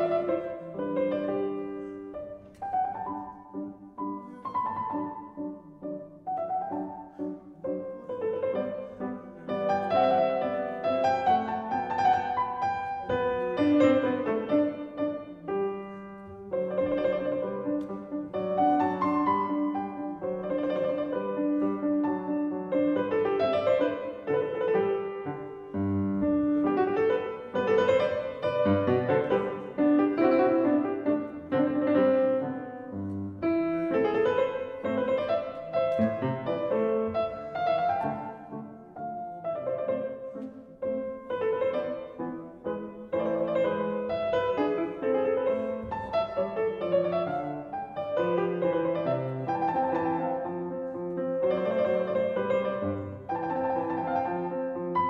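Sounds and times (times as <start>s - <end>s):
gentle classical piano music: 0.0s - 55.0s.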